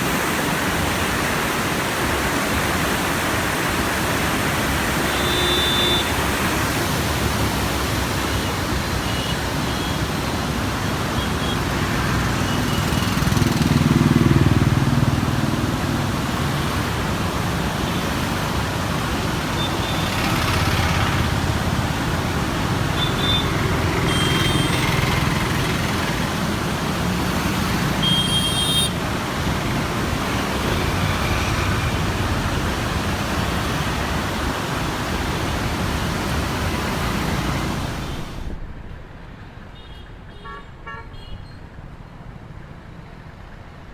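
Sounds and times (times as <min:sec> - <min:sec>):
flood water roaring: 0:00.0 - 0:38.6.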